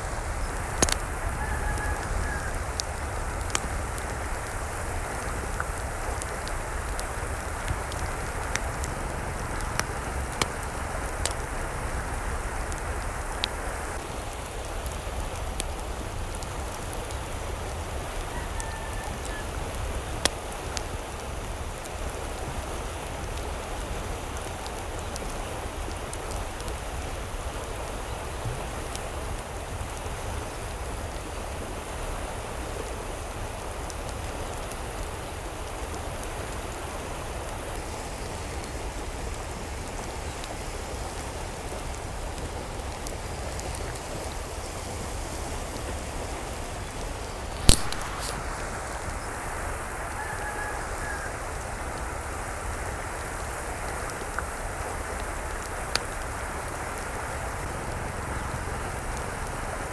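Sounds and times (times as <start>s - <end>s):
falling water patter: 0.0s - 59.9s.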